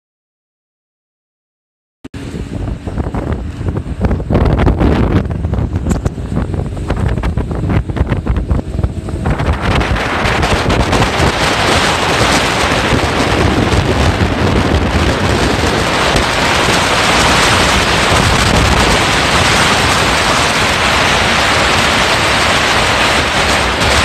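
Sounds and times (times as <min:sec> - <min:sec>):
water along boat hull: 0:02.2 - 0:24.0
wind on microphone: 0:02.2 - 0:24.0.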